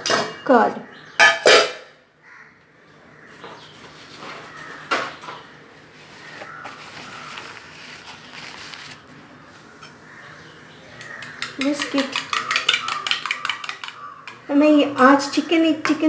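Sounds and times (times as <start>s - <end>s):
faint room noise: 0.0s - 16.0s.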